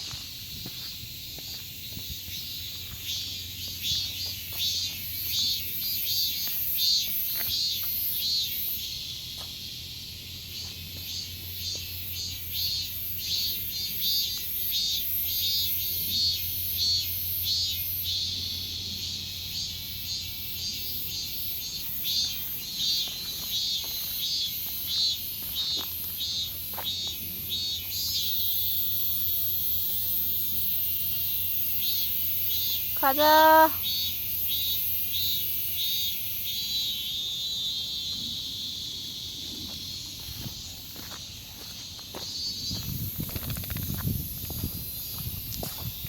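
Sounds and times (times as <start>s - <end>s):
cicadas singing: 0.0s - 46.0s.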